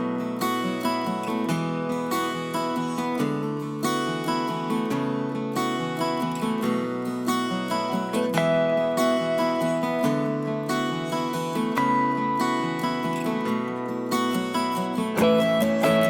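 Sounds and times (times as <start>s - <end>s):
acoustic guitar picked and strummed: 0.0s - 16.0s.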